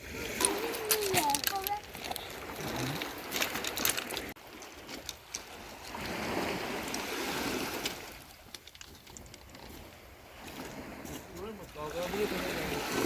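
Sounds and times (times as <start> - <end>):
sea water washing at shore: 0.0 - 13.0
small water splashes and clicks: 0.2 - 13.0.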